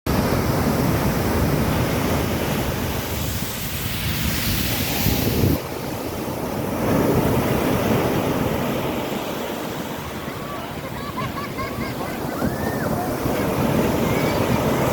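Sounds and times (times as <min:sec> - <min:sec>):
surf breaking on beach: 0:00.1 - 0:14.9
wind buffeting microphone: 0:00.2 - 0:14.9.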